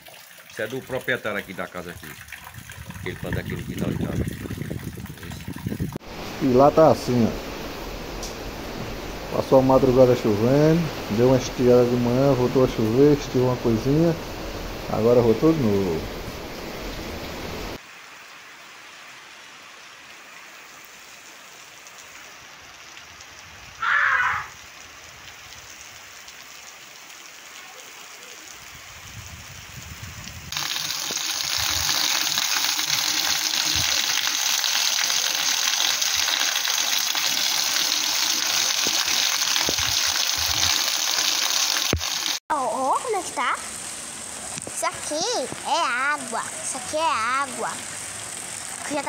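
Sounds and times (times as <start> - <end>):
rain on a street: 5.9 - 49.0.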